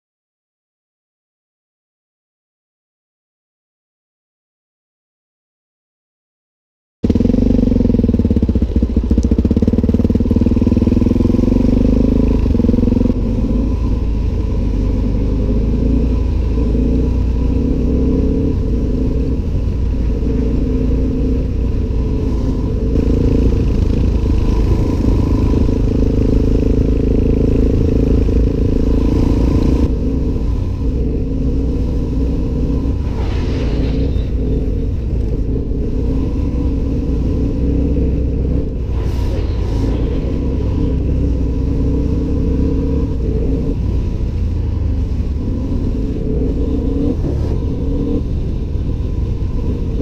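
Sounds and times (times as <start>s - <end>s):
motorcycle engine running: 7.0s - 50.0s.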